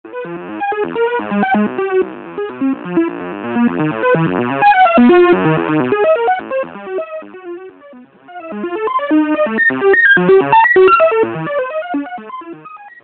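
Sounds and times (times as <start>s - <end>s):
synthesizer blip notes: 0.1s - 13.0s.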